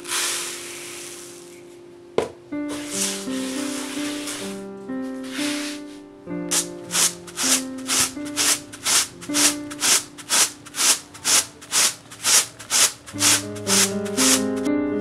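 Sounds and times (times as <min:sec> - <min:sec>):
grains swishing in plastic basin: 0:00.0 - 0:01.6, 0:02.7 - 0:04.6, 0:05.2 - 0:14.7
soft piano music: 0:00.0 - 0:11.0, 0:13.1 - 0:15.0.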